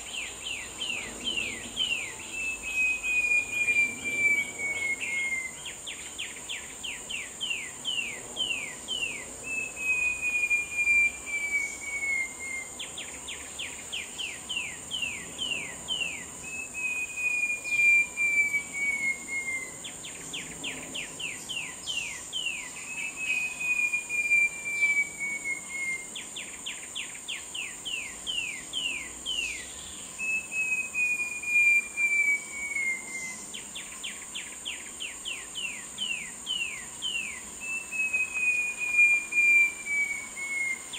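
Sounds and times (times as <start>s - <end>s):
bird singing whistles: 0.0s - 40.9s
high insect drone: 0.0s - 40.9s.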